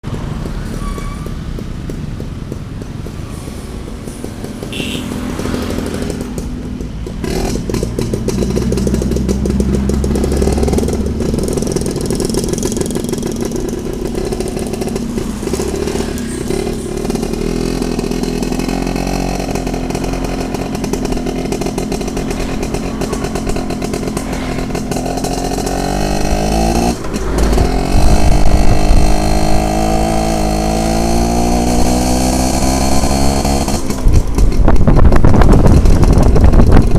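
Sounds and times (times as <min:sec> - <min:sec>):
two-stroke motorcycle engine: 0:00.0 - 0:00.6, 0:04.0 - 0:36.9.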